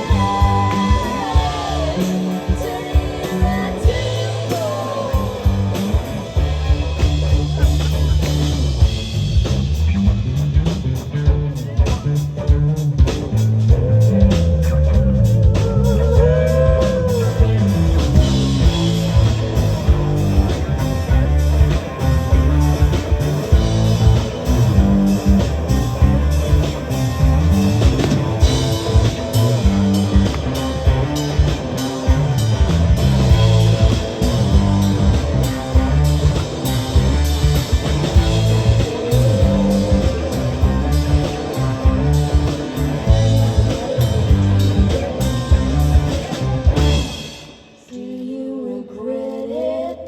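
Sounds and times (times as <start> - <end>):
rock band playing: 0.0 - 47.8.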